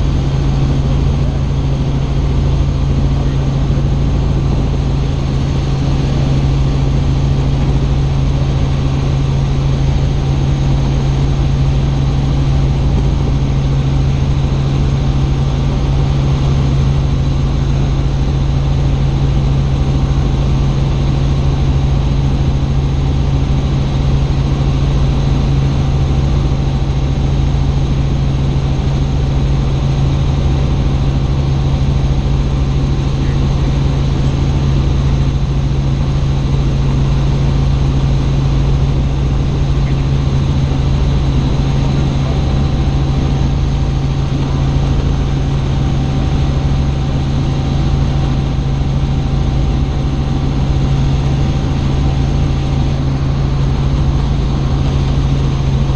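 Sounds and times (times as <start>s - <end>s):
helicopter rotor drone: 0.0s - 55.9s.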